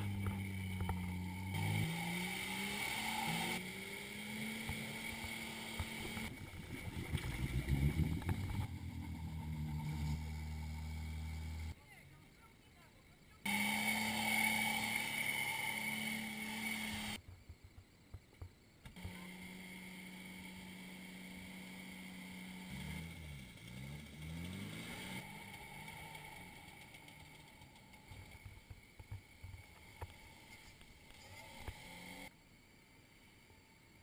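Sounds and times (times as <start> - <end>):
off-road engines revving: 0.0 - 11.8, 13.4 - 17.2, 19.0 - 32.3.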